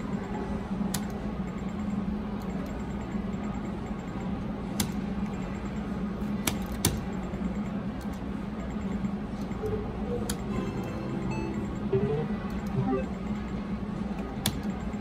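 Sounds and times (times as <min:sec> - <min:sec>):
casino background hum: 0:00.0 - 0:15.0.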